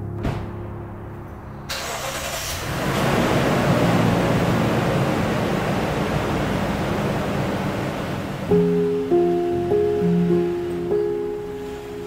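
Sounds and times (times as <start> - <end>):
vehicle engine starting and running: 1.7 - 12.0.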